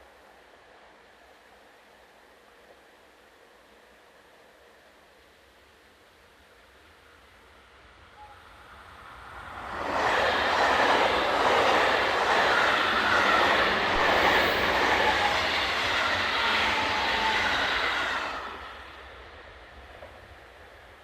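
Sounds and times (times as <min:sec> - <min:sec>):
freight train passing: 0:00.0 - 0:21.0.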